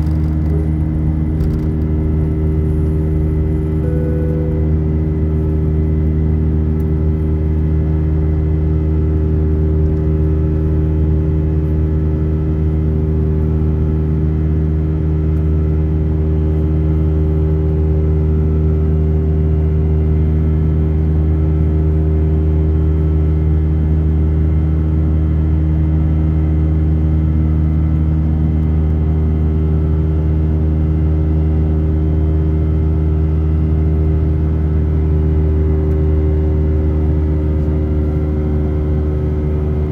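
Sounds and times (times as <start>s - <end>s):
airplane cabin jet engine drone: 0.0s - 39.9s.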